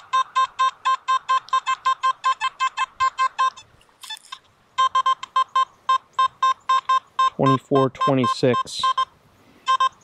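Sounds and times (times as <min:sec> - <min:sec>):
metal detector beeping: 0:00.0 - 0:10.0.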